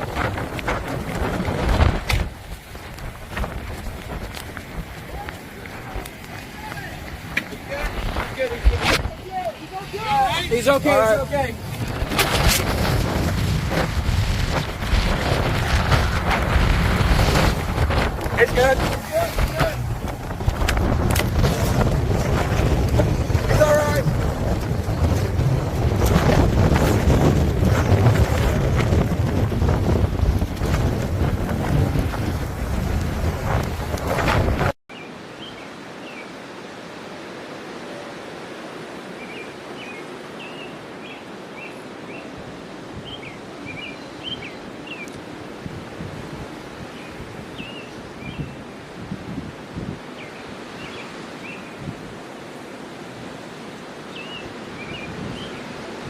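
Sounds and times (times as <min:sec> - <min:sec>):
wind buffeting microphone: 0:00.0 - 0:34.8, 0:42.2 - 0:56.0
steady outdoor noise: 0:00.0 - 0:56.0.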